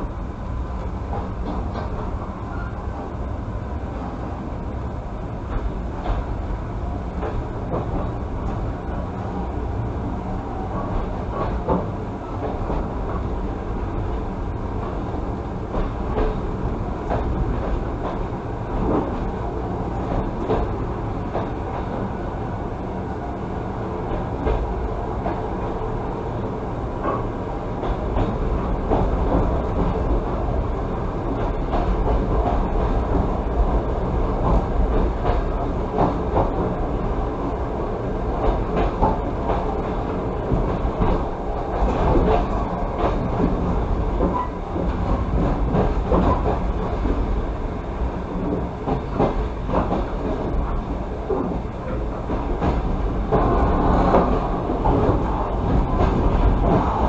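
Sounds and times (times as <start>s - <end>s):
train wheel-and-rail rumble: 0.0s - 57.0s.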